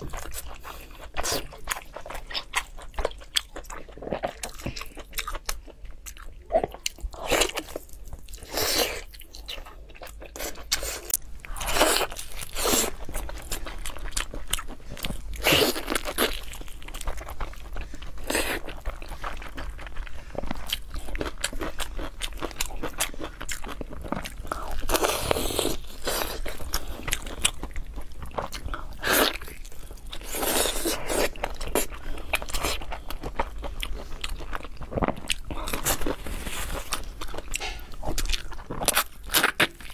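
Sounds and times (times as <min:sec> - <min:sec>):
crunching and wet chewing: 0:00.0 - 0:39.9.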